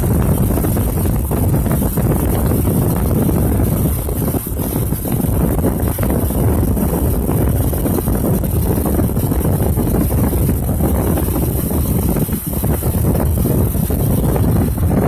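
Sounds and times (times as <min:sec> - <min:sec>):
heavy vehicle engine rumbling: 0:00.0 - 0:15.0
wind buffeting microphone: 0:00.0 - 0:15.0.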